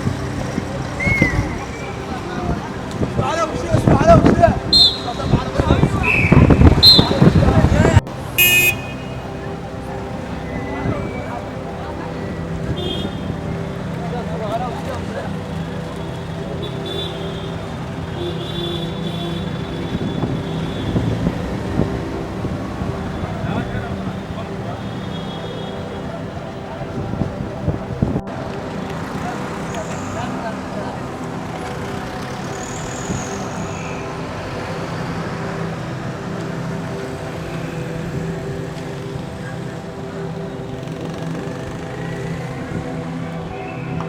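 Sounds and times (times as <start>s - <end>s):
street traffic noise: 0.0s - 44.0s
vehicle engine running: 0.0s - 44.0s.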